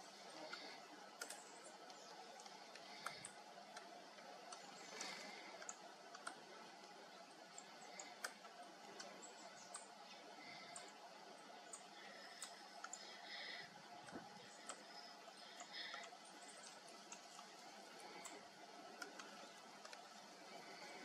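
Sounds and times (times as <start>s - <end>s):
low steady hiss: 0.0s - 21.0s
squirrel gnawing a nut: 0.1s - 21.0s.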